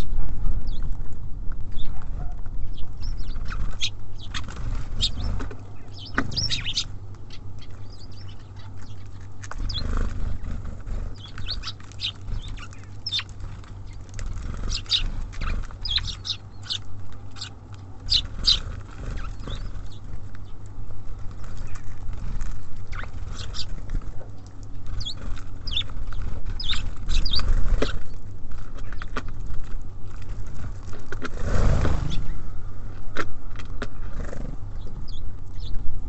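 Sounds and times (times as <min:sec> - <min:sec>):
songbirds chirping: 0:00.0 - 0:36.0
steady low rumble: 0:00.0 - 0:36.0.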